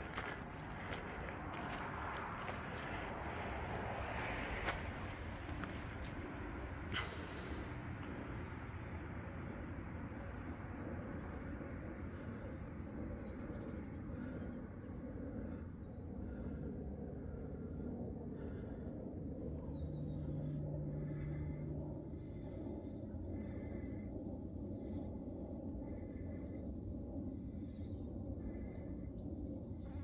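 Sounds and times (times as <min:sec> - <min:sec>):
low forest rumble: 0:00.0 - 0:30.0.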